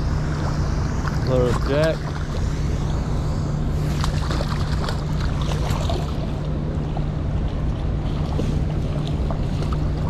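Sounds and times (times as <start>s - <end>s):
moving water: 0.0s - 10.0s.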